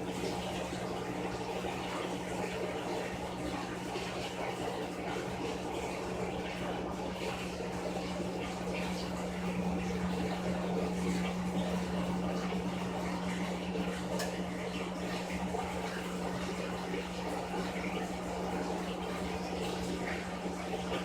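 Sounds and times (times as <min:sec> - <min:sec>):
washing machine motor hum: 0:00.0 - 0:21.0
water swishing in tub: 0:00.0 - 0:21.0.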